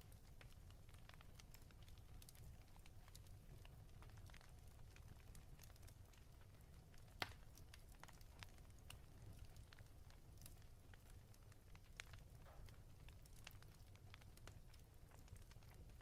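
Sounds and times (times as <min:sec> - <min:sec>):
faint fireplace crackle: 0:00.0 - 0:16.0.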